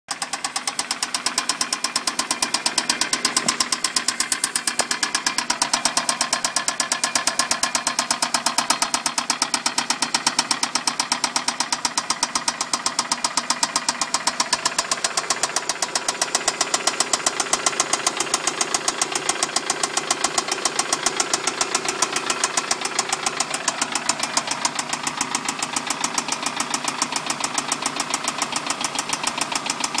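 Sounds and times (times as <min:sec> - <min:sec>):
car engine running: 0:00.1 - 0:30.0
rapid engine knock: 0:00.1 - 0:30.0.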